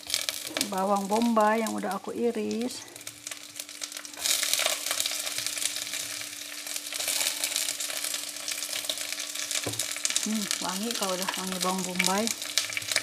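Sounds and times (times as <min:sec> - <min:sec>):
faint steady hum: 0:00.0 - 0:13.0
onions sizzling in oil: 0:00.0 - 0:13.0.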